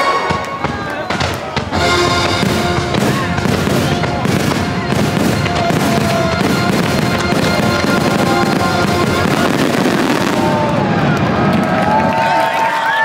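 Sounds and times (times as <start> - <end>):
loud music: 0.0 - 11.0
fireworks bursting: 0.0 - 12.0.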